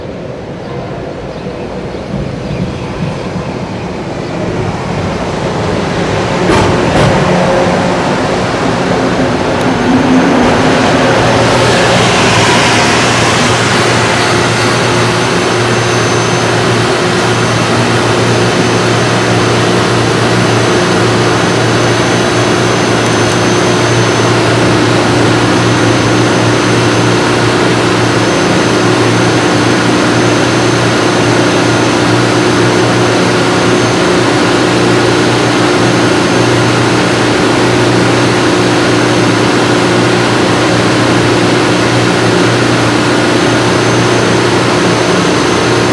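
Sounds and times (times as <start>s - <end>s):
faint high whine: 0.0s - 45.9s
train running drone: 0.0s - 45.9s.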